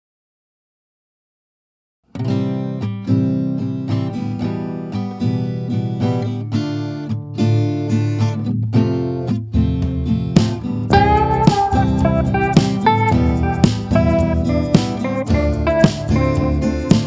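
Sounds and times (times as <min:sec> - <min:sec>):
acoustic guitar playing: 0:02.1 - 0:17.0.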